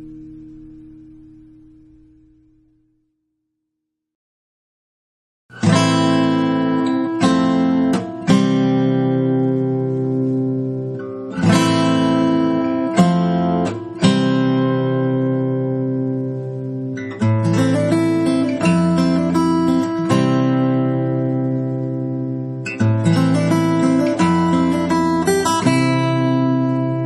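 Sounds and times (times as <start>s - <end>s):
acoustic guitar strumming: 0.0s - 2.8s, 5.5s - 27.0s.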